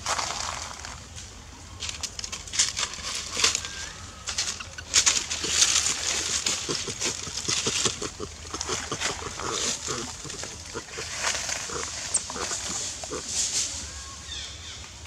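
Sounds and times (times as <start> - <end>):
rustling in dry leaves: 0.0 - 14.8.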